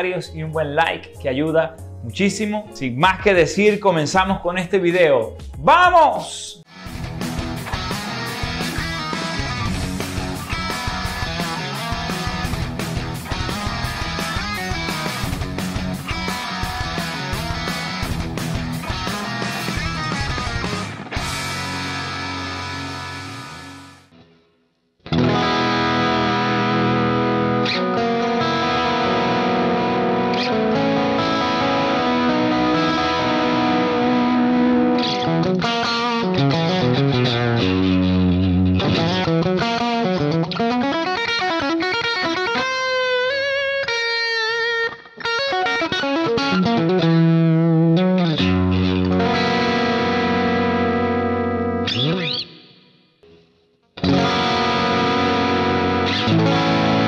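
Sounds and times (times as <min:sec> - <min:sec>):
distorted electric guitar solo: 0:06.6 - 0:24.4, 0:25.0 - 0:57.0.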